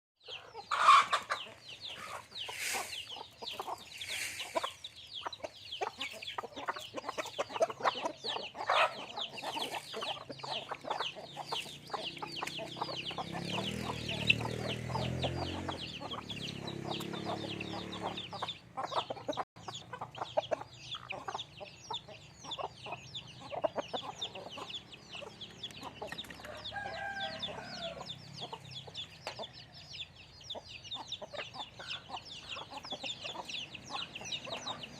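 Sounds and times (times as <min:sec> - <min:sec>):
chickens clucking: 0:00.2 - 0:34.9.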